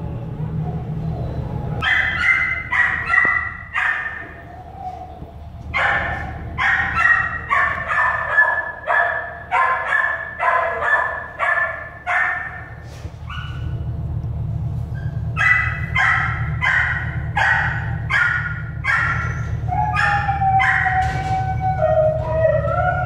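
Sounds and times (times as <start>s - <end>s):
puppies squealing and whimpering: 0.5s - 13.8s, 14.9s - 23.0s.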